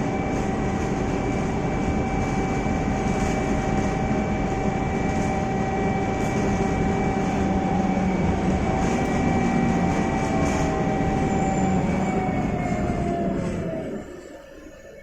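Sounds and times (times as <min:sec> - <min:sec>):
high drivetrain whine: 0:00.0 - 0:14.2
bus diesel engine drone: 0:00.0 - 0:15.0.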